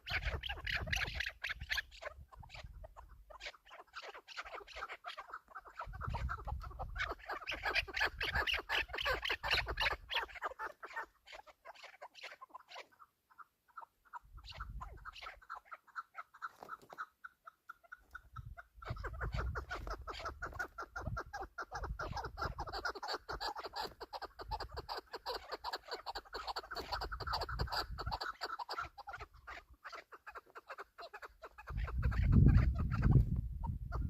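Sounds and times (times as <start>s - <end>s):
partridges calling: 0.0s - 34.0s.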